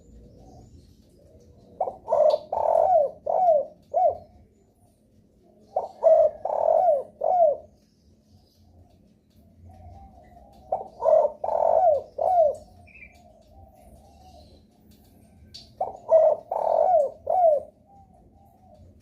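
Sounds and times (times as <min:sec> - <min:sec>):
dove cooing: 0:00.0 - 0:04.7, 0:05.5 - 0:07.8, 0:09.5 - 0:19.0.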